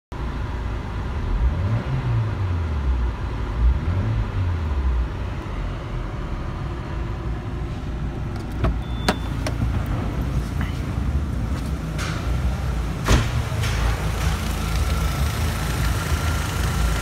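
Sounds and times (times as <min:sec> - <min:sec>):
car engine revving and idling: 0:00.2 - 0:17.0.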